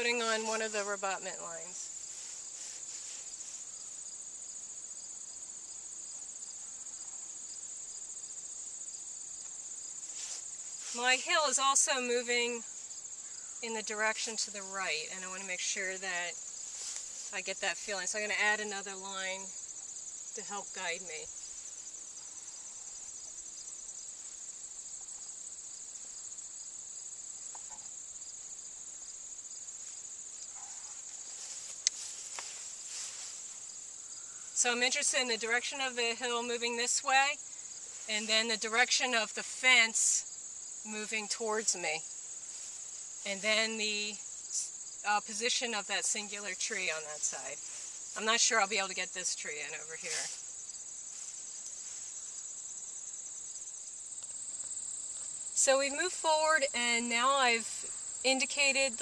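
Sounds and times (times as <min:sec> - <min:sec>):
faint pulsing insect: 0:00.0 - 0:59.0
insects trilling: 0:00.0 - 0:59.0.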